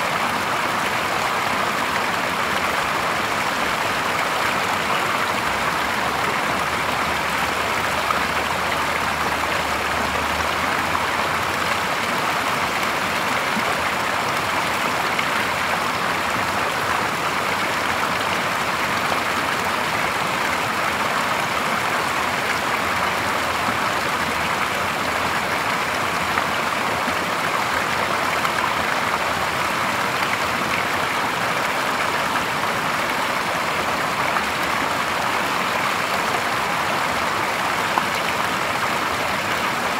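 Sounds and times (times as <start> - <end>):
stream water splashing: 0.0 - 39.9.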